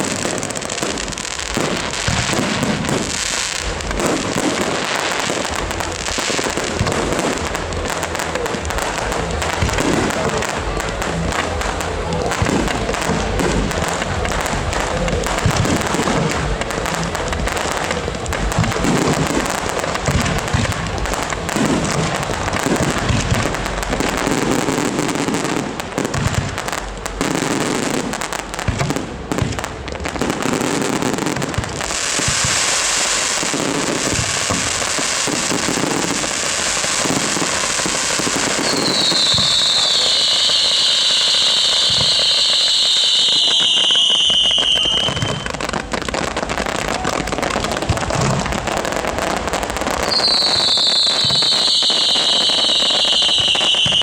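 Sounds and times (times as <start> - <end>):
fireworks bangs and booms: 0.0 - 54.0
fireworks steady hiss: 0.0 - 54.0.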